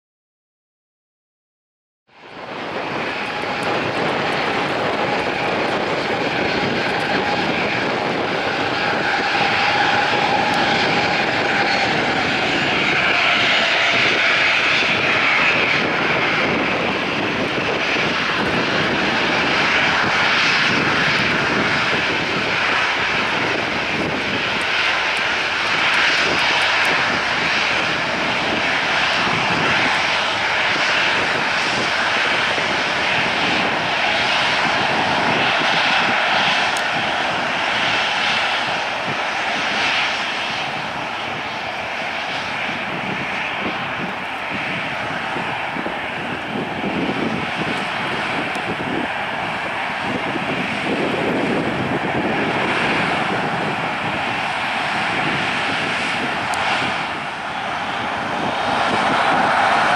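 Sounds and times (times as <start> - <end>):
jet engines whining at taxi power: 2.1 - 59.9.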